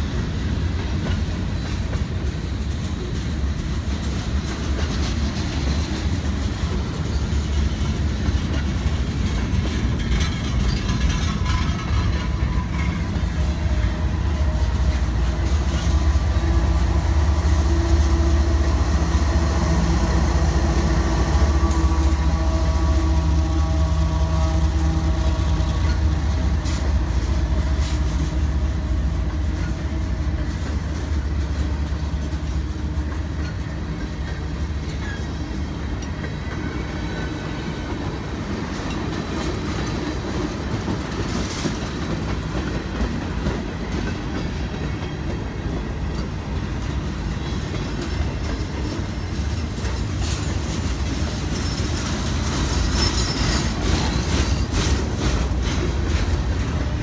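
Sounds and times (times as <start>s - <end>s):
diesel locomotive engine droning: 0.0s - 57.0s
train wheels rumbling on rails: 0.0s - 57.0s
wheels clacking over rail joints: 0.0s - 57.0s.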